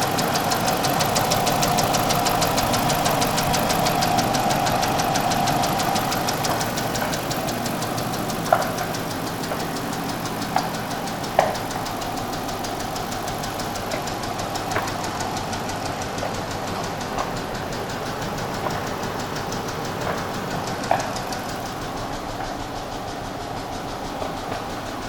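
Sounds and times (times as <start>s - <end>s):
car engine ticking: 0.0s - 25.0s
sharp clicks: 0.0s - 25.0s
steady whine: 0.0s - 25.0s.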